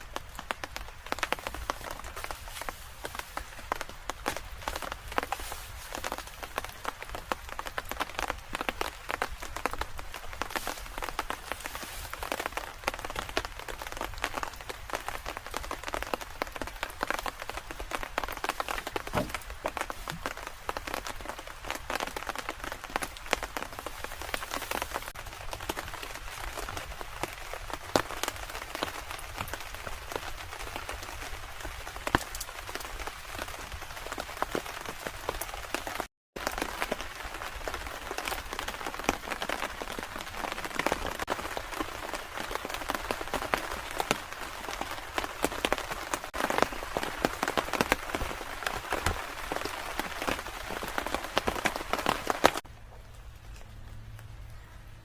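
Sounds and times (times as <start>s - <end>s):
raindrops hitting a near surface: 0.0s - 55.0s
steady rain falling: 0.0s - 55.0s.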